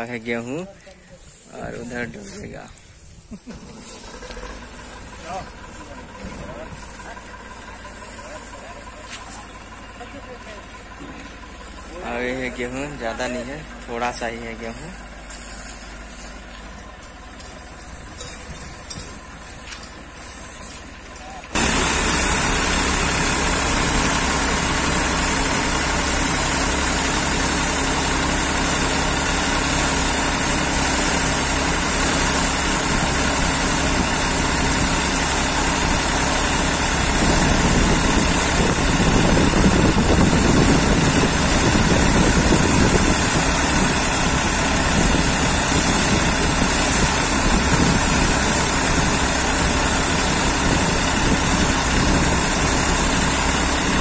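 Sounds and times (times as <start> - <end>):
threshing machine running: 0.0 - 54.0.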